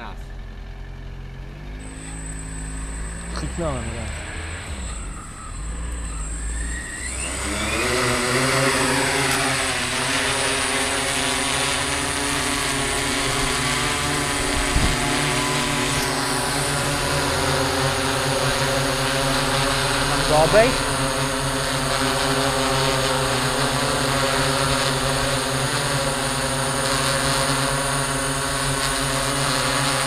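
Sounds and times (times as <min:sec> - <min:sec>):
drone motors buzzing: 0:00.0 - 0:30.0.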